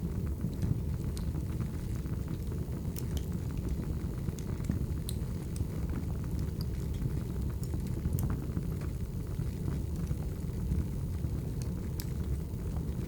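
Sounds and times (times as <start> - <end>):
wood fire burning: 0.0 - 13.0
logs crackling and popping: 0.2 - 13.0.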